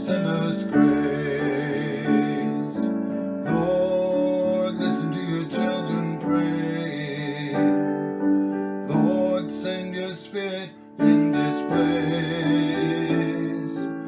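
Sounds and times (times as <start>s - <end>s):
chorus singing a hymn: 0.0s - 7.8s, 8.9s - 13.9s
piano playing slow chords: 0.0s - 14.0s.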